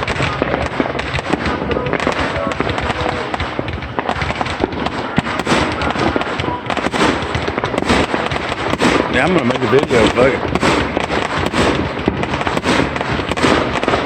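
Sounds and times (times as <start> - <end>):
fireworks barrage: 0.0 - 14.0.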